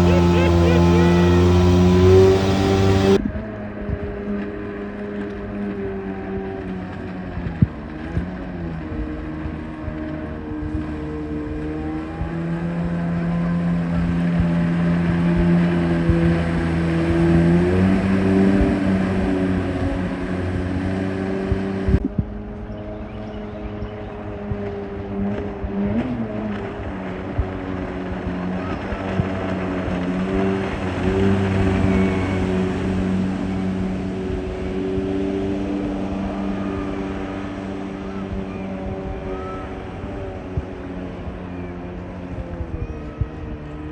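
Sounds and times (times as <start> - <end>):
jet boat engine running: 0.0 - 3.3, 5.4 - 43.9.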